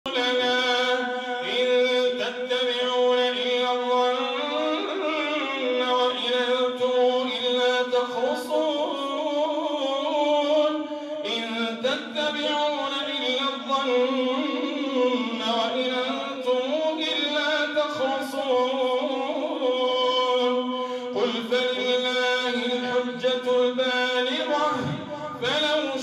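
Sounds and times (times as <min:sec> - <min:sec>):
man chanting into a microphone: 0:00.0 - 0:26.0.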